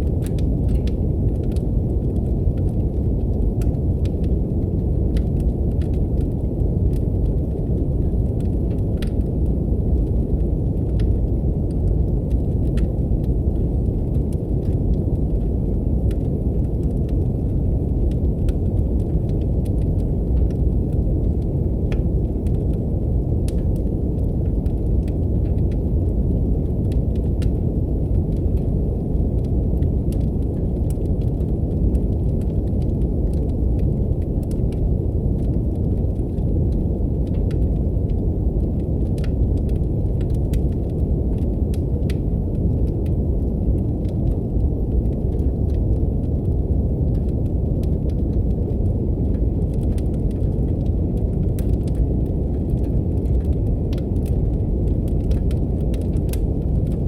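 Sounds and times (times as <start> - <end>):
brown noise rumbling hiss: 0.0 - 57.0
wood fire crackling: 0.0 - 57.0.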